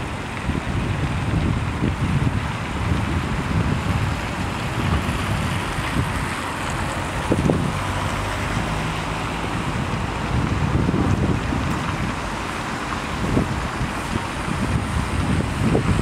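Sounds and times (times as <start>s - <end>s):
vehicle engine rumble: 0.0s - 16.0s
wind buffeting microphone: 0.0s - 16.0s.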